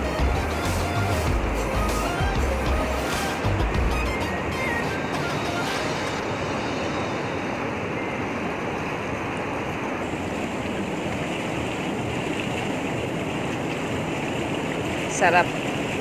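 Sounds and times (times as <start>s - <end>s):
hot tub jets churning water: 0.0s - 16.0s.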